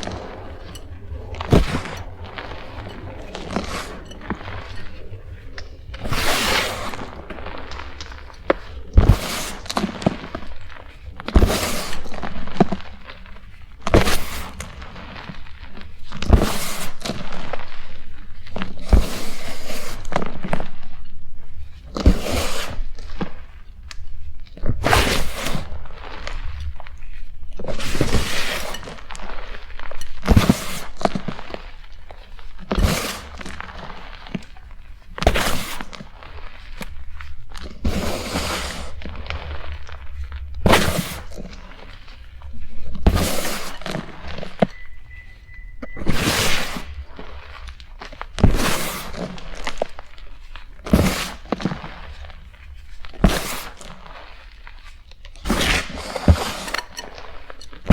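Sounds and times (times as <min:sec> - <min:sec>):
chalk crumbly crunching: 0:00.0 - 0:20.4, 0:22.0 - 0:45.3, 0:46.1 - 0:57.9.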